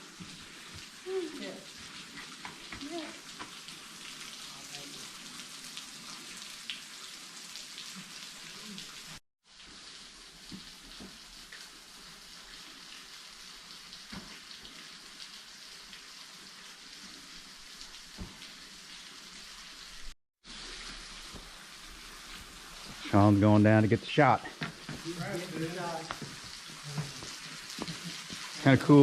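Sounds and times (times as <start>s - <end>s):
small waterfall splashing: 0.0s - 23.4s, 24.2s - 29.0s.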